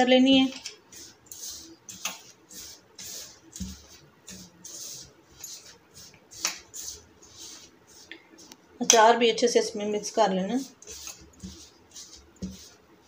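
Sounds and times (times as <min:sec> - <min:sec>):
hands mixing dough in steel bowl: 0:00.0 - 0:13.0.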